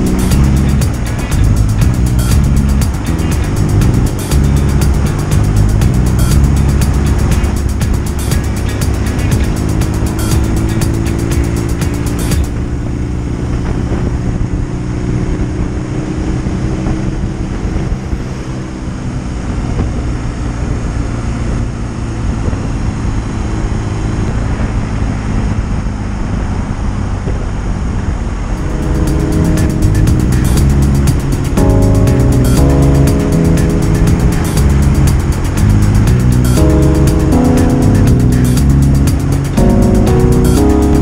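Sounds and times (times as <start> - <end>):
motorcycle engine cruising: 0.0 - 41.0
road noise: 0.0 - 41.0
rushing wind: 0.0 - 41.0.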